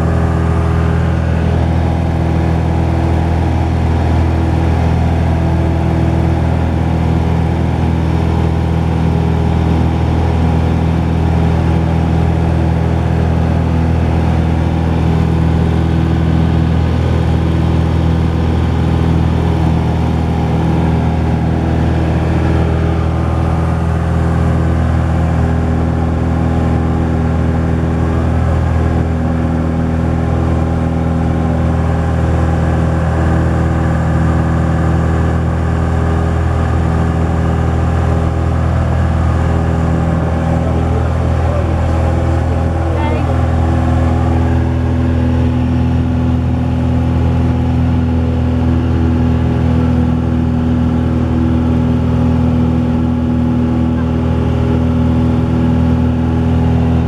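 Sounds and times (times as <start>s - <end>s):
airplane engine drone in cabin: 0.0s - 57.0s.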